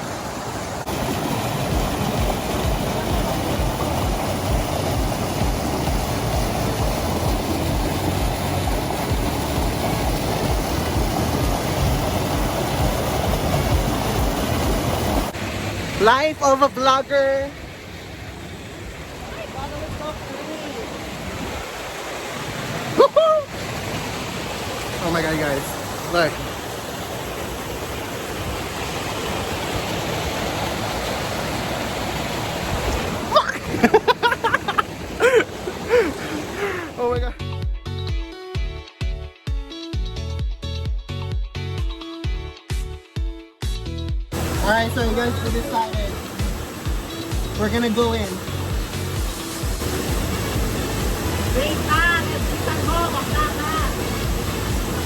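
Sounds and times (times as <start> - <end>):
waterfall rushing: 0.0 - 37.4, 44.3 - 55.0.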